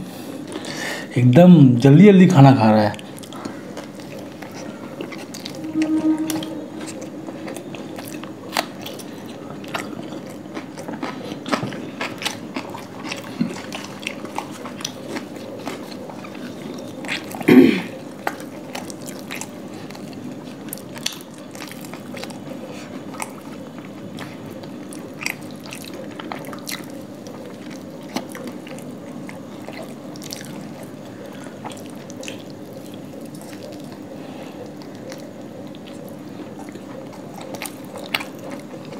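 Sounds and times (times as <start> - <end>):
people chewing and biting: 2.9 - 38.9.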